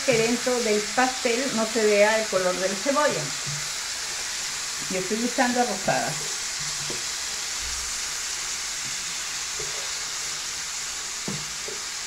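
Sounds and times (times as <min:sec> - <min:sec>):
chicken and onion sizzling: 0:00.0 - 0:12.0
spatula stirring in skillet: 0:00.0 - 0:12.0.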